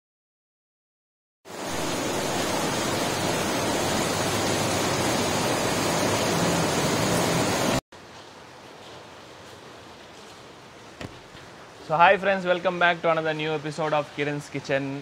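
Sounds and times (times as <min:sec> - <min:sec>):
heavy rain pouring: 0:01.5 - 0:15.0.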